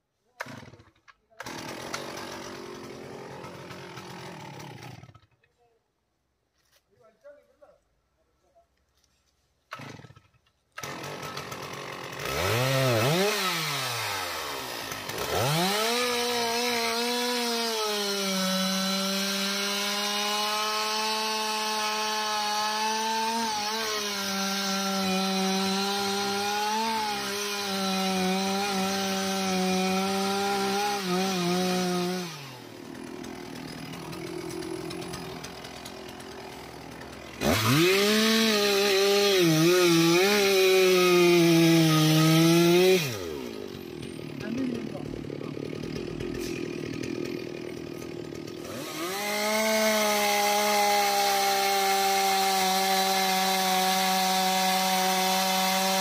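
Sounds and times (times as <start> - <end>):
chainsaw cutting wood: 0.3 - 5.5, 9.6 - 56.0.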